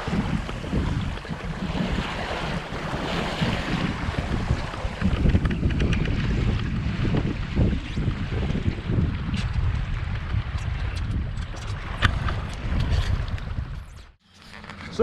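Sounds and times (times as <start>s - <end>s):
wind buffeting microphone: 0.0s - 14.2s
water splashing along boat hull: 0.0s - 15.0s.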